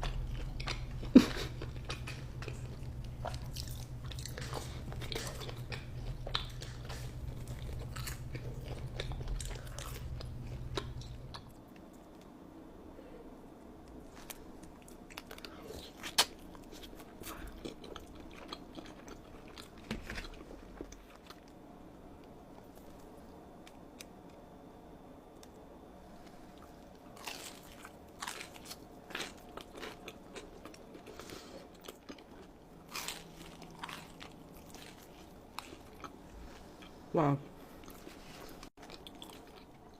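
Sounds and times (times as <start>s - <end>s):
person chewing and crunching food: 0.0s - 12.3s, 14.0s - 21.6s, 25.3s - 37.1s, 37.7s - 39.9s
low background hum: 0.0s - 39.9s.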